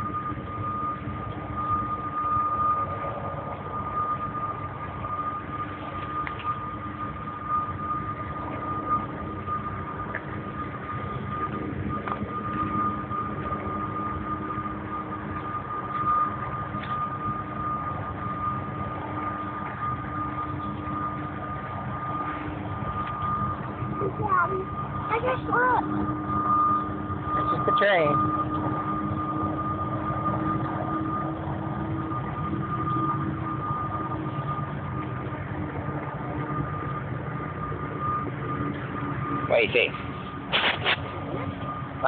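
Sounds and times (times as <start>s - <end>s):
high-pitched tone: 0.0s - 42.0s.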